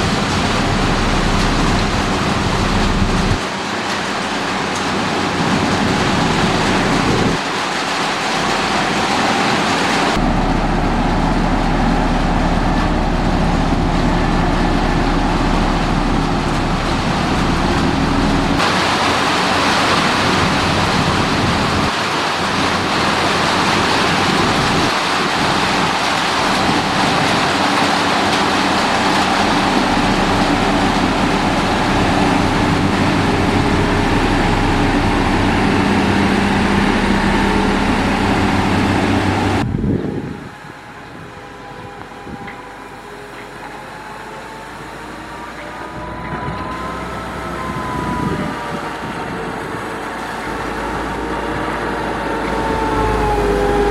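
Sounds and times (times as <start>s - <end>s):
constant noisy background: 0.0s - 53.9s
heavy diesel machinery under load: 0.0s - 53.9s.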